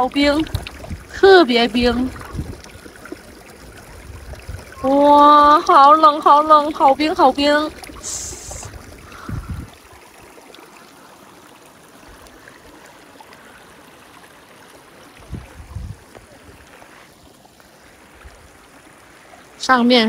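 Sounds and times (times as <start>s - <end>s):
stream running over rocks: 0.0s - 20.0s.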